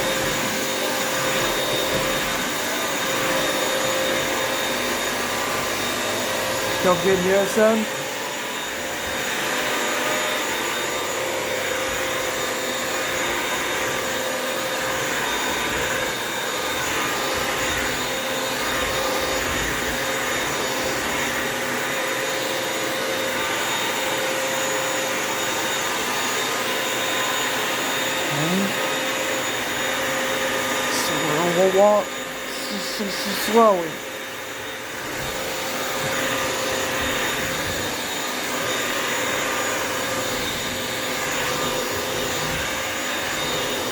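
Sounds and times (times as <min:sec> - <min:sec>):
vacuum mop running: 0:00.0 - 0:43.9.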